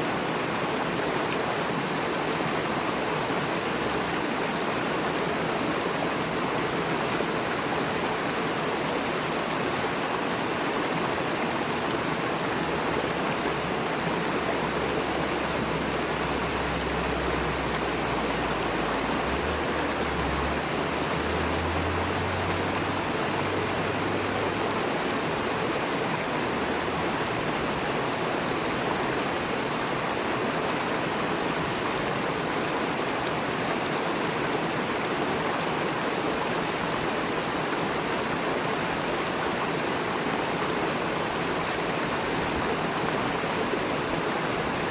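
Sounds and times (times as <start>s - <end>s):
river rushing over rocks: 0.0s - 44.9s.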